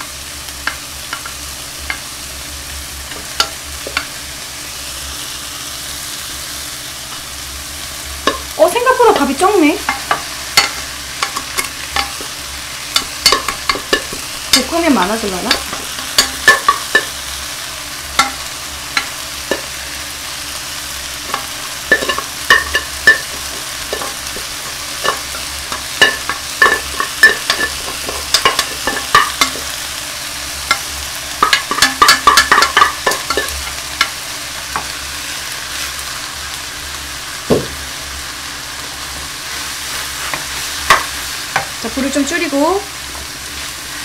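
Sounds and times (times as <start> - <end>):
food sizzling in frying pan: 0.0 - 44.0.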